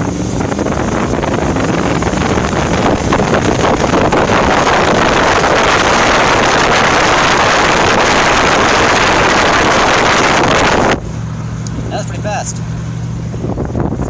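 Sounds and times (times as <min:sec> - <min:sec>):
wind buffeting microphone: 0:00.0 - 0:12.1, 0:12.7 - 0:14.0
road and engine noise: 0:00.0 - 0:14.0.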